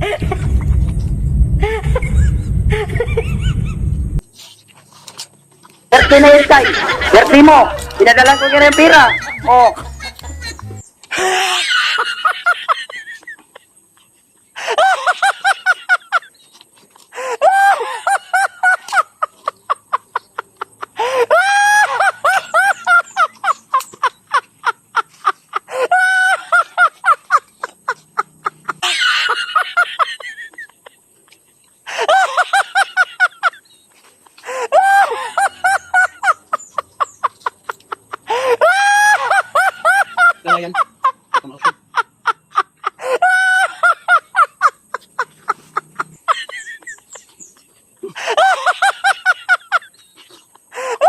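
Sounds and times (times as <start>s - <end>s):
high-pitched laughter: 1.6s - 3.9s, 6.0s - 16.4s, 17.2s - 33.7s, 34.5s - 51.0s.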